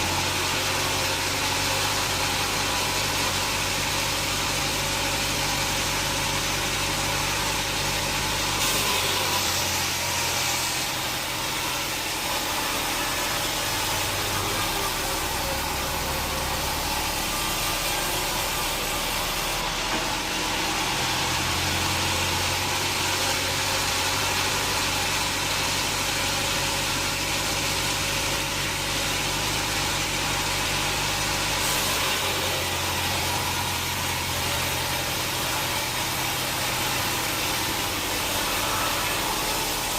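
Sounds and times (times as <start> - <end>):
sawmill machinery hum: 0.0 - 39.9.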